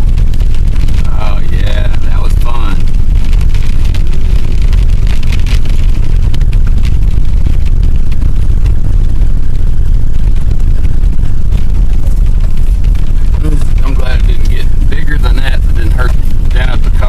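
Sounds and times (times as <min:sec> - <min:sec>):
car rumbling on road: 0:00.0 - 0:17.0
hailstones ticking on car: 0:00.0 - 0:17.0.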